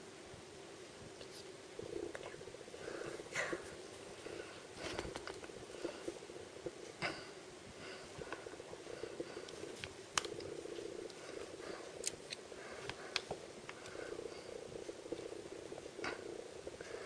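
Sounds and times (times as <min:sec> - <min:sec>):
low buzzing hum: 0:00.0 - 0:17.0.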